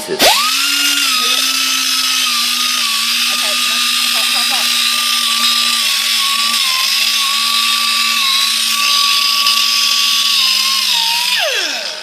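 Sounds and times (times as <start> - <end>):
air sander whining: 0.0 - 12.0.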